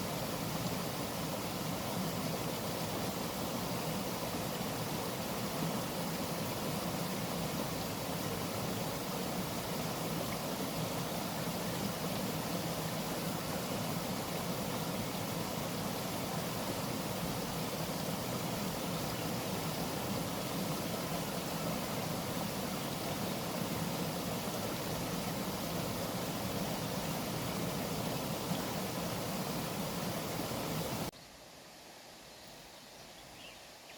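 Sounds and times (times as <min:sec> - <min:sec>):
waterfall rushing: 0:00.0 - 0:31.1.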